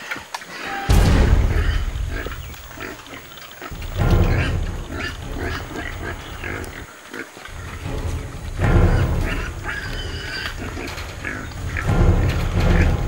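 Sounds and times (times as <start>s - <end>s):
pigs grunting and squealing: 0.5s - 13.0s.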